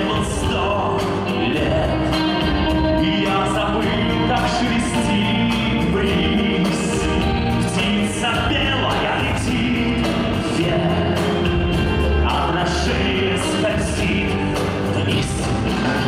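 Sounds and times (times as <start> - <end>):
drums: 0.0 - 16.0
electric guitar: 0.0 - 16.0
keyboards: 0.0 - 16.0
male lead vocal: 0.0 - 16.0.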